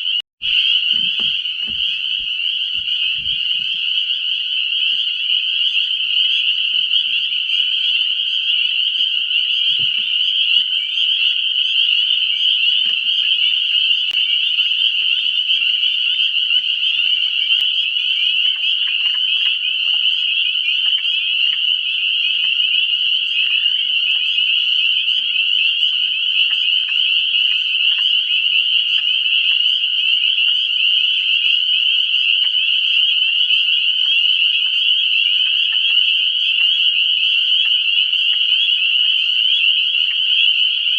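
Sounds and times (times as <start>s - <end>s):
frog chorus: 0.0s - 40.9s.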